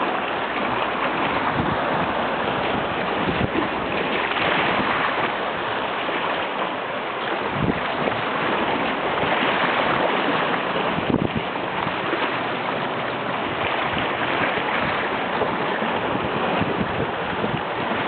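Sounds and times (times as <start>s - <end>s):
waves washing ashore: 0.0s - 18.0s.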